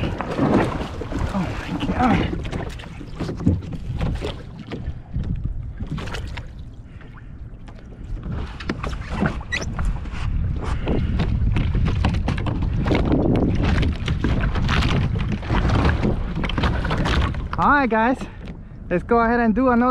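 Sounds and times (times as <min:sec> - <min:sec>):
water splashing: 0:00.0 - 0:09.9, 0:11.6 - 0:18.4
wind rumbling on microphone: 0:00.0 - 0:19.9.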